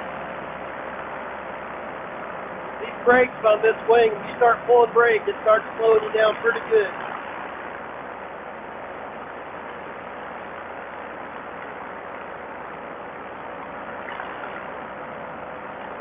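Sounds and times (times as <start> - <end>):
paramotor engine drone: 0.0 - 16.0.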